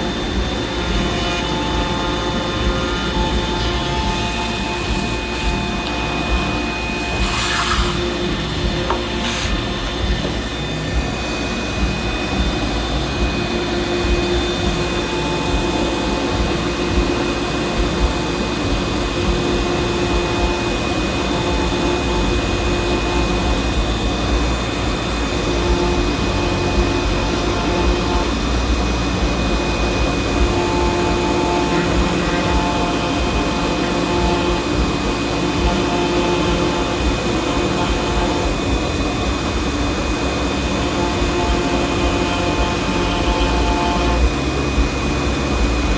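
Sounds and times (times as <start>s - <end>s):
constant machine noise: 0.0s - 45.9s
low motor tones: 0.0s - 45.9s
spindle whine: 0.0s - 45.9s.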